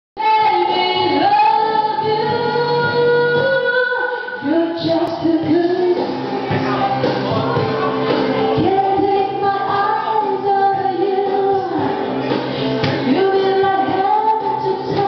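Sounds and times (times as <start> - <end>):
backing music: 0.2 - 15.0
person singing: 0.2 - 15.0.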